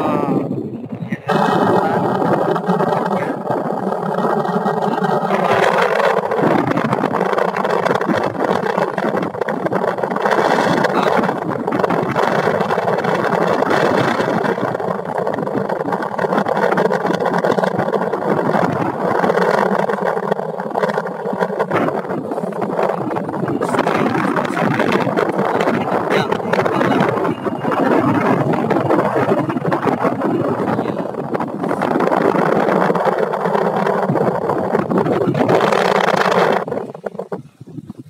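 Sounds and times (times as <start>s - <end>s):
small boat engine running: 0.0s - 38.0s
steady hum: 0.0s - 38.0s.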